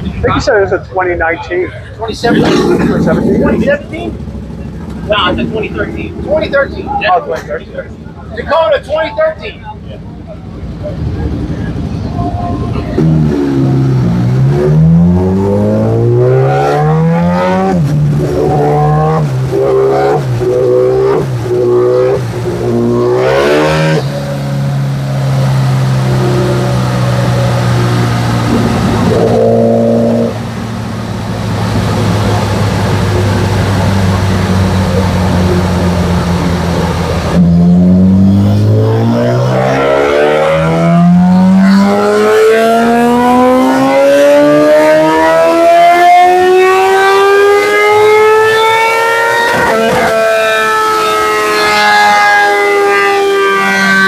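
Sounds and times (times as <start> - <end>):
motorcycle engine revving: 2.2 - 8.3, 10.5 - 54.0.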